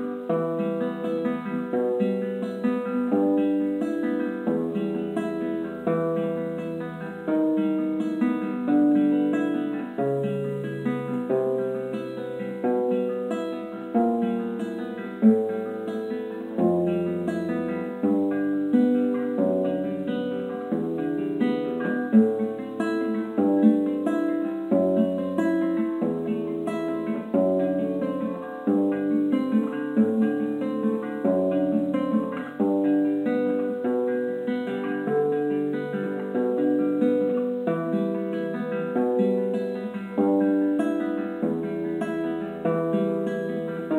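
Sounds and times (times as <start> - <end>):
classical guitar fingerstyle: 0.0 - 43.9.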